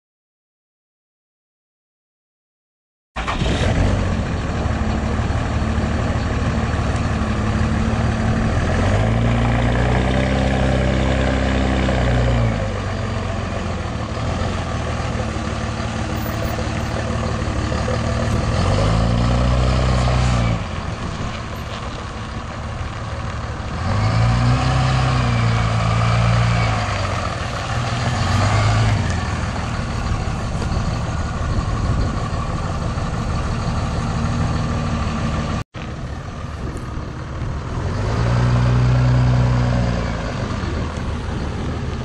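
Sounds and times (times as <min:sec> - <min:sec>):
diesel pickup engine driving: 0:03.2 - 0:42.0.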